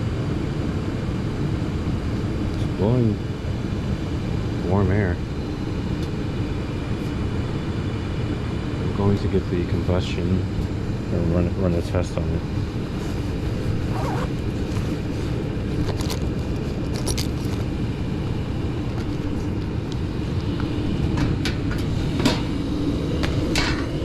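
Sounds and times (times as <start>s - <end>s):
furnace hum: 0.0s - 24.0s
furnace low rumble: 0.0s - 24.0s.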